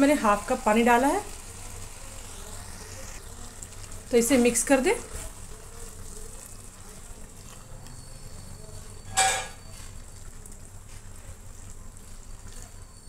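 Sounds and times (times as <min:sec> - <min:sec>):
chicken and onions sizzling: 0:00.0 - 0:13.0
spatula stirring in pot: 0:00.4 - 0:13.0.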